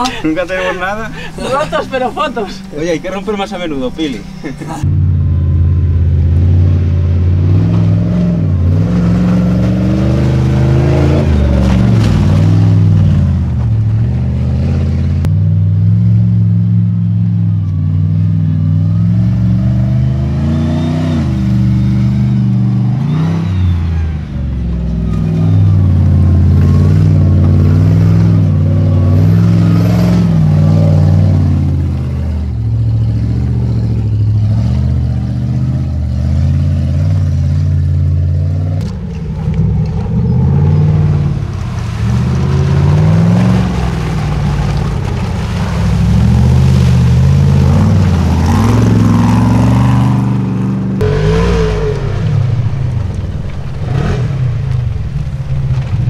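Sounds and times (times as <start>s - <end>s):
race car engine revving: 1.2s - 56.0s.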